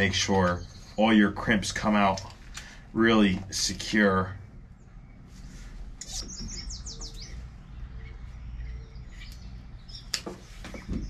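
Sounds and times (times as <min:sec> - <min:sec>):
low outdoor rumble: 0:00.0 - 0:11.0
songbird chirping: 0:00.0 - 0:11.0.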